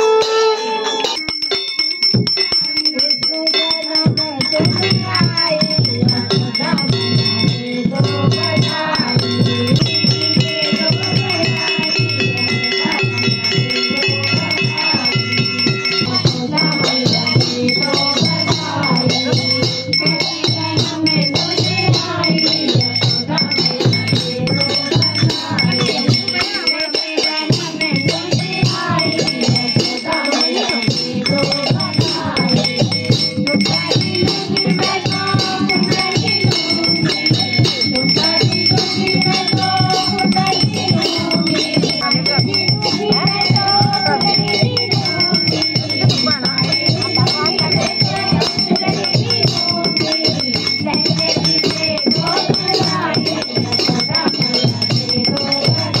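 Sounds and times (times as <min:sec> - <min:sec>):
dholak drum beat: 0:00.0 - 0:56.0
jingling metal percussion: 0:00.0 - 0:56.0
ringing bell tones: 0:00.0 - 0:56.0
voices singing: 0:00.0 - 0:56.0.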